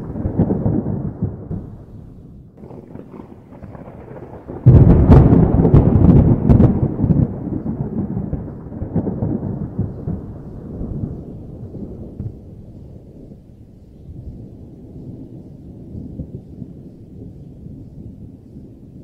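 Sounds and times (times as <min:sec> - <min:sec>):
thunder clap and rumble: 0:00.0 - 0:19.0.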